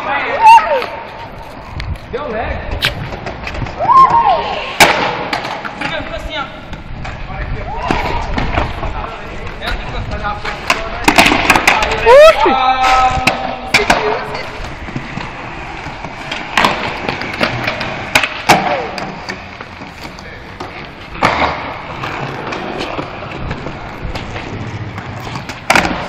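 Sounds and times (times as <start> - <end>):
skateboard wheels rolling: 0.0 - 26.0
skateboard clacking on ground: 0.4 - 26.0.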